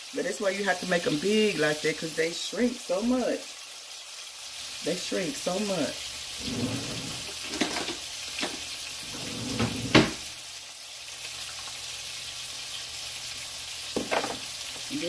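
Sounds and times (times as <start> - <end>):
patties sizzling on a griddle: 0.0 - 6.6, 7.2 - 9.1, 10.1 - 15.0.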